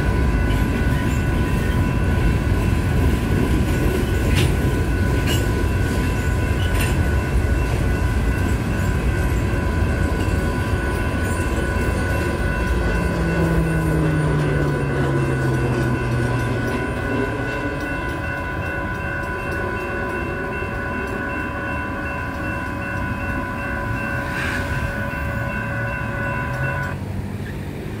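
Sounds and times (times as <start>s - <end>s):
freight train rumbling: 0.0s - 28.0s
railroad crossing bells ringing: 0.0s - 28.0s.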